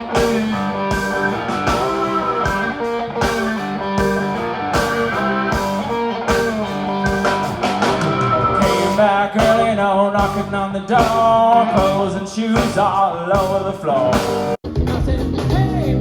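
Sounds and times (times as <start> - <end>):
electric guitar: 0.0 - 16.0
steady drum beat: 0.0 - 16.0.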